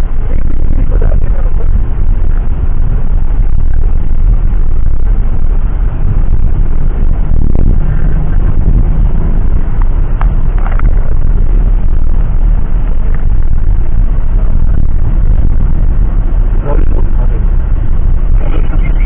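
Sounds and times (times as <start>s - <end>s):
vehicle rumbling in motion: 0.0s - 19.0s.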